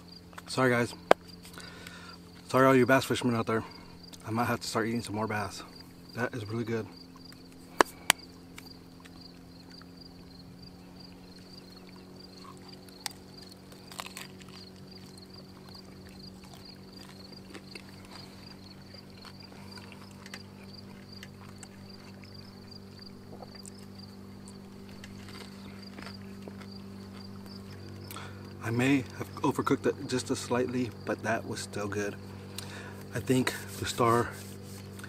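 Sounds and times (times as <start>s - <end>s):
crickets chirping: 0.0s - 35.0s
steady low hum: 0.0s - 35.0s.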